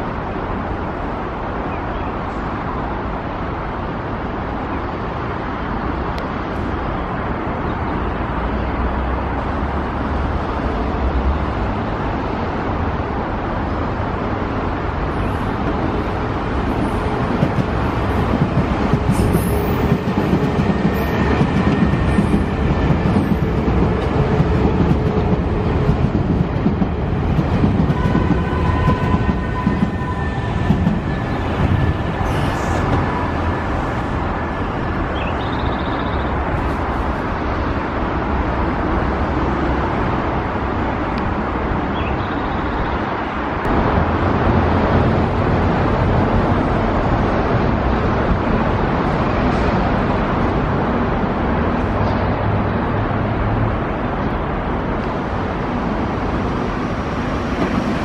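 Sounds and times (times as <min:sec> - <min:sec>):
train wheels rumbling on rails: 0:02.2 - 0:41.8, 0:43.2 - 0:58.0.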